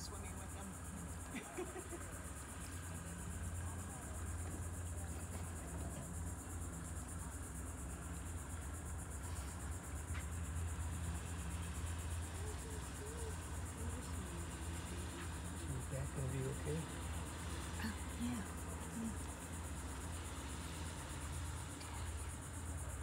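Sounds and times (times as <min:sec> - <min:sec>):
faint distant voices: 0:00.0 - 0:23.0
insects chirring: 0:00.0 - 0:23.0.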